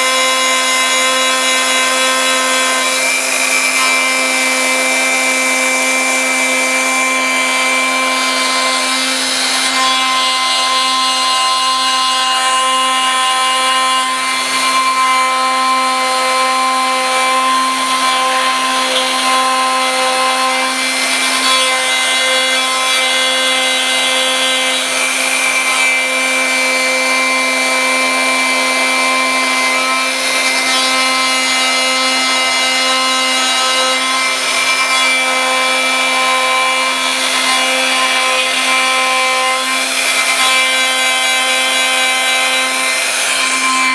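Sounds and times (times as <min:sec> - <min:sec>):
router spindle milling metal: 0:00.0 - 0:43.9.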